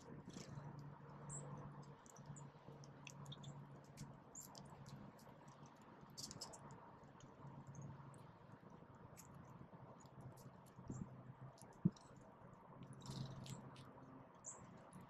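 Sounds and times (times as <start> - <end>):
birds pecking at seed: 0.0 - 15.0
low steady hum: 0.0 - 15.0.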